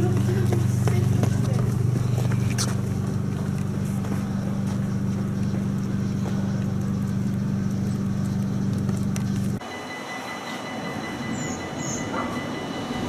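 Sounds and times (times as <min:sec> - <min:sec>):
train motor droning: 0:00.0 - 0:13.0.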